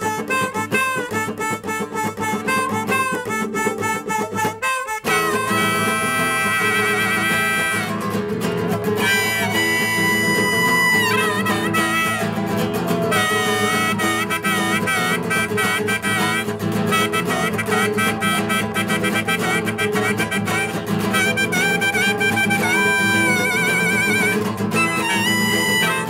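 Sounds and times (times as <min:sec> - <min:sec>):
flute melody with vibrato: 0:00.0 - 0:26.0
plucked guitar accompaniment: 0:00.0 - 0:26.0.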